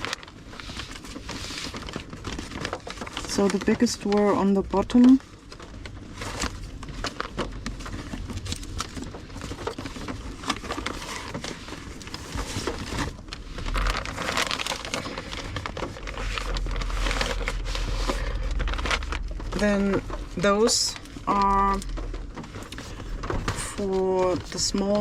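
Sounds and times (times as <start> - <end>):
low steady rumble: 0.0 - 25.0
papers rustling: 0.0 - 25.0.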